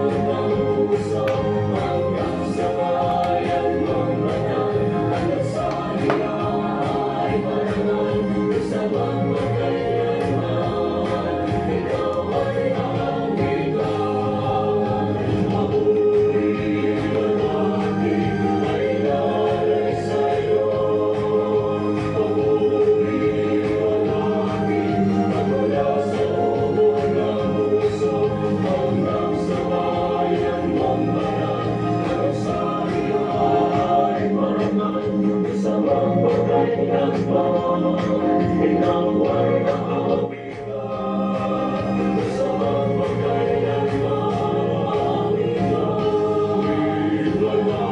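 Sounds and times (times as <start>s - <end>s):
gospel music with choir singing: 0.0s - 47.9s.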